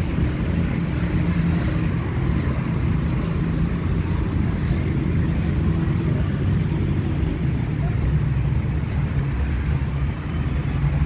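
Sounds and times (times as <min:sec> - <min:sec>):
distant road traffic rumble: 0:00.0 - 0:11.0.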